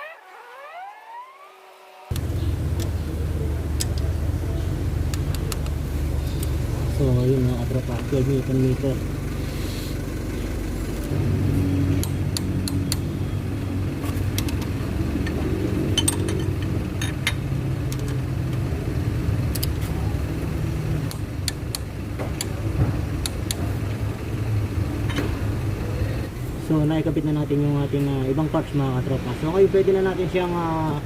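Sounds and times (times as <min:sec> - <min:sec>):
low mechanical hum: 0:02.1 - 0:31.0.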